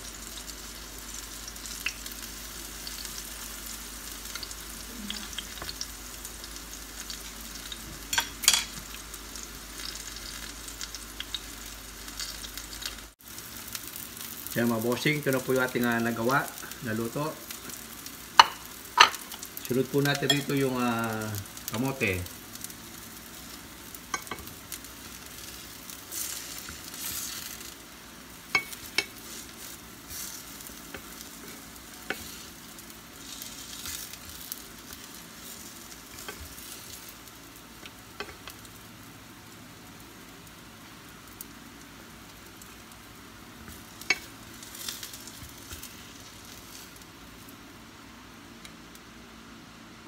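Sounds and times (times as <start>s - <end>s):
fritters sizzling in hot oil: 0.0s - 50.0s.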